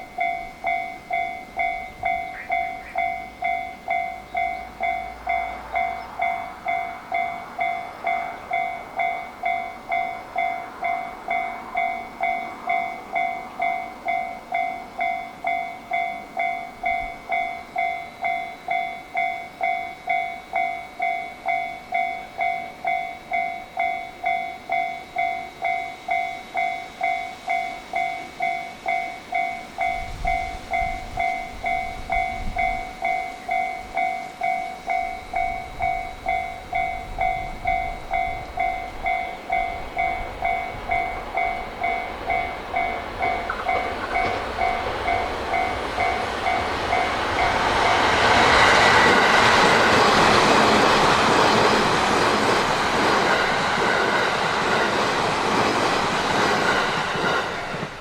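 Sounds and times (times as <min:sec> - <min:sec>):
level-crossing warning bell: 0:00.0 - 0:58.0.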